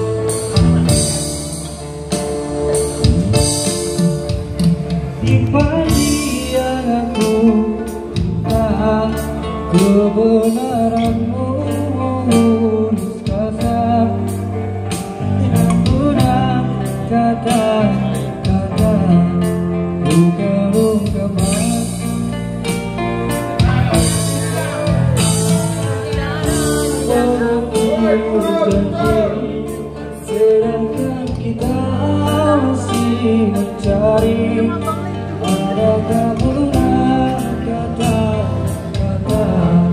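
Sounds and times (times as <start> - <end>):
acoustic guitar: 0.0 - 39.9
drum kit beat: 0.0 - 39.9
electric bass: 0.0 - 39.9
man singing a pop ballad: 2.8 - 39.9.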